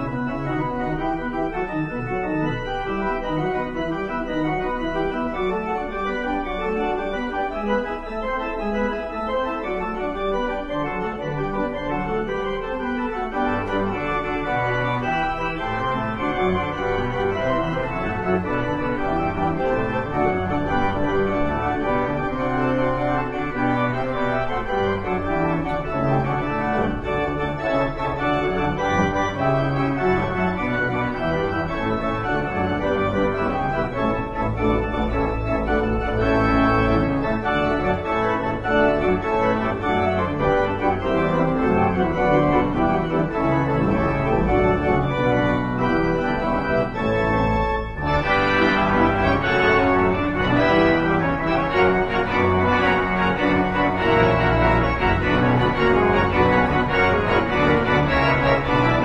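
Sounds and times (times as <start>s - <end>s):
church organ playing: 0.0s - 59.0s.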